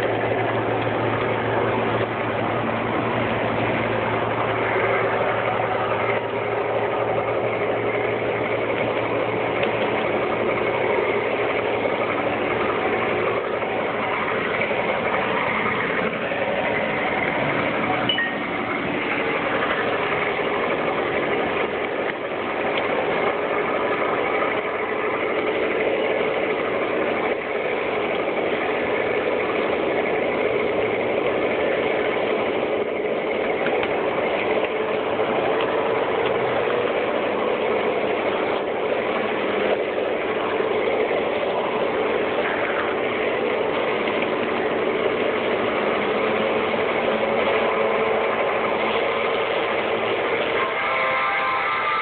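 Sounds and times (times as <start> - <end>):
model train whirring and rattling: 0.0 - 52.0.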